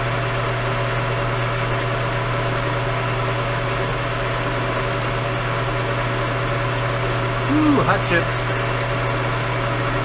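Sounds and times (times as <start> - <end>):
metal lathe humming: 0.0 - 10.0.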